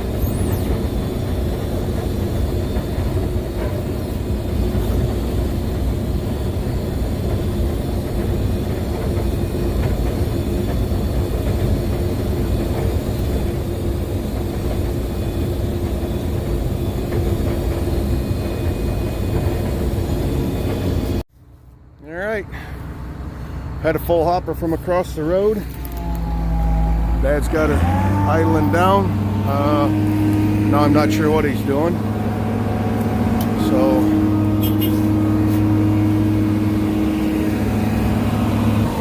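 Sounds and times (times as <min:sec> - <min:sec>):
combine harvester running: 0:00.0 - 0:39.0.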